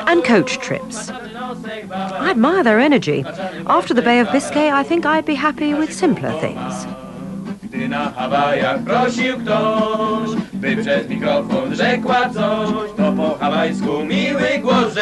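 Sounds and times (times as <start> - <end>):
men singing a folk song: 0.0 - 15.0.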